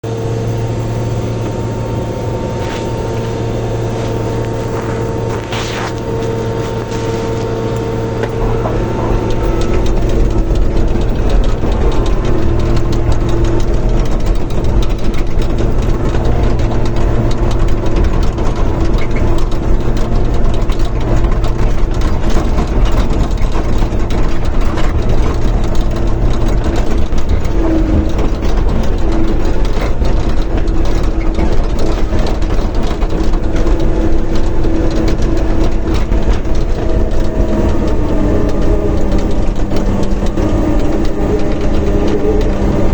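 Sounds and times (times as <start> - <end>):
bulldozer diesel engine running: 0.0 - 42.9
dense clatter of sharp clicks: 0.8 - 42.9.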